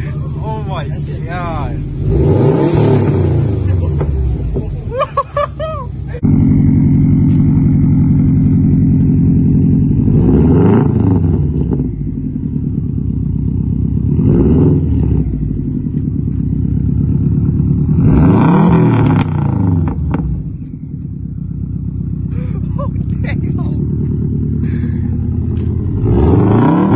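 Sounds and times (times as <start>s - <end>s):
car engine idling and revving: 0.0s - 26.9s.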